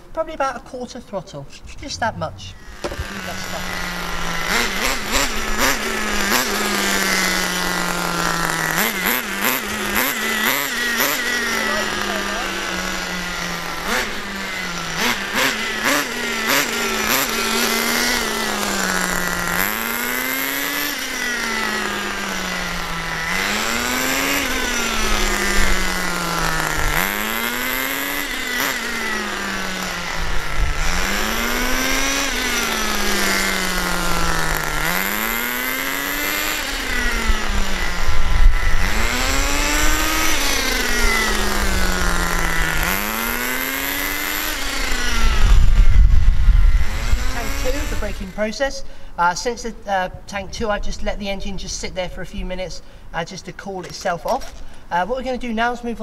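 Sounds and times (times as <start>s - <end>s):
rc truck nitro engine buzzing: 2.5s - 48.7s.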